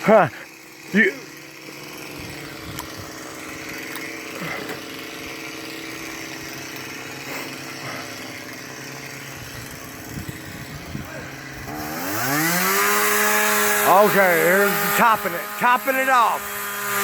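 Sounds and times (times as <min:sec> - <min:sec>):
distant chainsaw engine running: 0:00.0 - 0:17.0.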